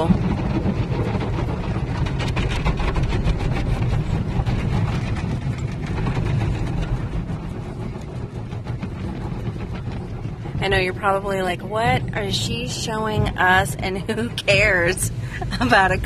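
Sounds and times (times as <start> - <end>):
car wash brushes scrubbing: 0.0 - 16.0.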